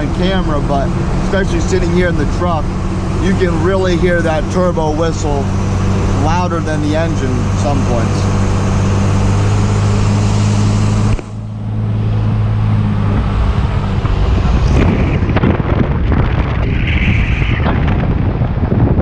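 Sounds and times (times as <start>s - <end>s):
diesel truck engine: 0.0s - 19.0s
wind noise: 0.0s - 19.0s.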